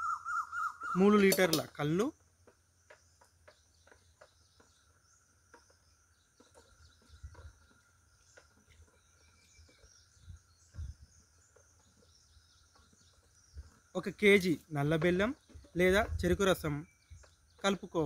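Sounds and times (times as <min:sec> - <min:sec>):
faint insect chirring: 0:00.0 - 0:18.0.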